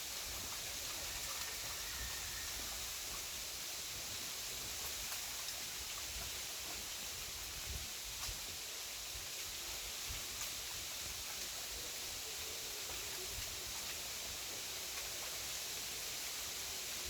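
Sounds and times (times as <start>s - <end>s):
bamboo leaves rustling in wind: 0.0s - 17.0s.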